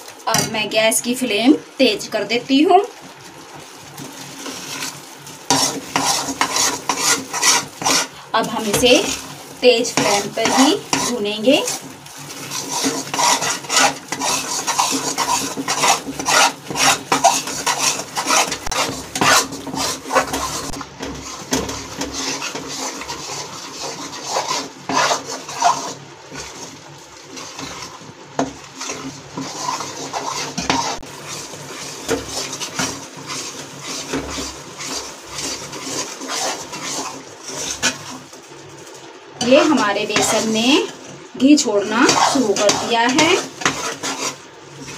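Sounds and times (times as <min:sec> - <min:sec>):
steel spatula scraping a pan: 0:03.9 - 0:38.4, 0:39.4 - 0:44.9.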